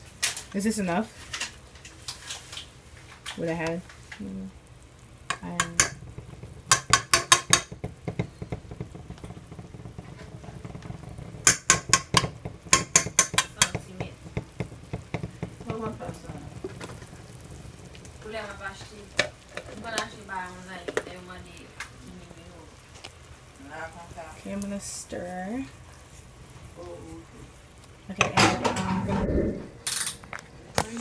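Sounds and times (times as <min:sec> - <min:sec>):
sauce sizzling in a metal pot: 0:00.0 - 0:29.1.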